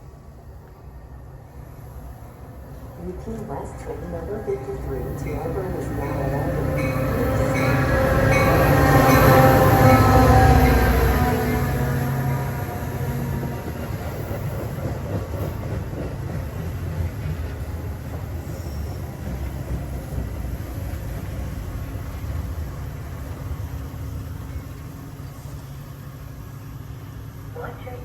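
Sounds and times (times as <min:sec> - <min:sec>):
diesel locomotive engine: 0:00.0 - 0:28.0
train wheels rumbling on rail: 0:00.0 - 0:28.0.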